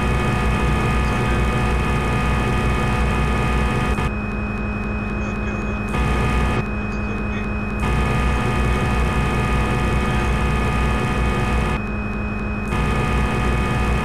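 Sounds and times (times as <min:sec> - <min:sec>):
milling machine spindle hum: 0:00.0 - 0:14.0.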